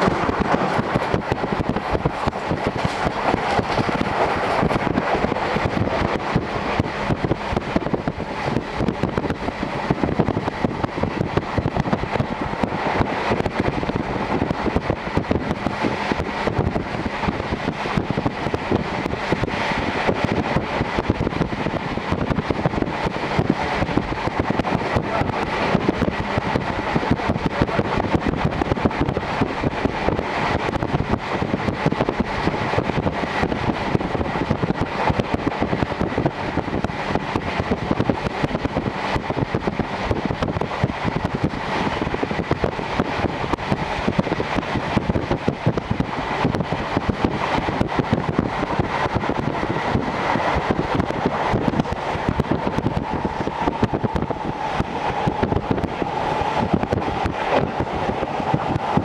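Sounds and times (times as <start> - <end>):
rush of air: 0.0 - 59.0
train wheels rumbling on rails: 0.0 - 59.0.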